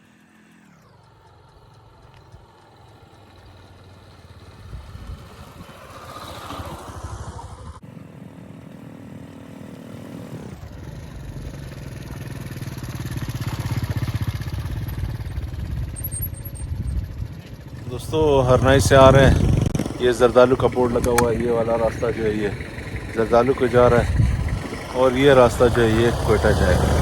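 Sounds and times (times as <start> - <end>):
motorcycle engine running: 0.0 - 27.0
road noise: 0.0 - 27.0
wind: 0.0 - 27.0.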